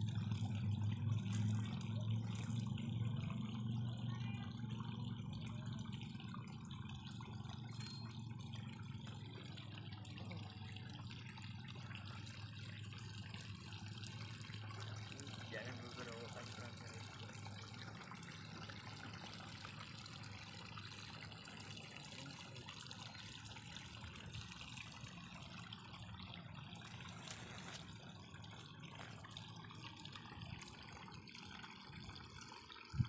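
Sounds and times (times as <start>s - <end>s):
faint trickle of running water: 0.0s - 33.0s.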